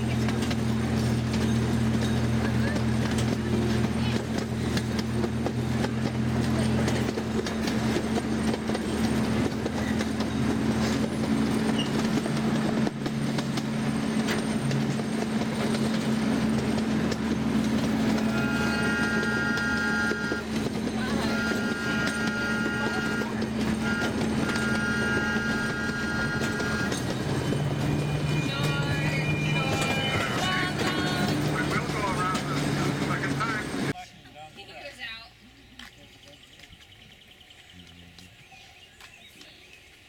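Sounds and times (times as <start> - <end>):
miniature train running on track: 0.0 - 34.5.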